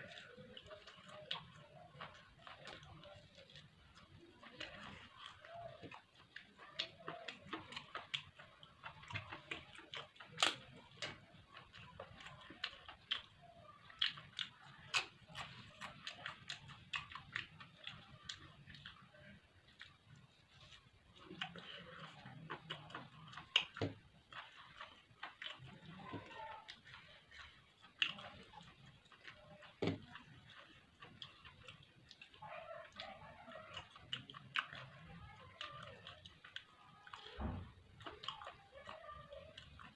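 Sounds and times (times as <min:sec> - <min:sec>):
wet chewing mouth sounds: 0:00.0 - 0:39.9.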